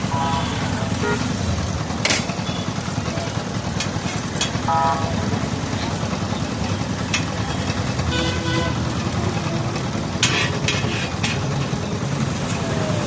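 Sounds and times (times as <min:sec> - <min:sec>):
motor vehicles engine rumble: 0:00.0 - 0:13.0.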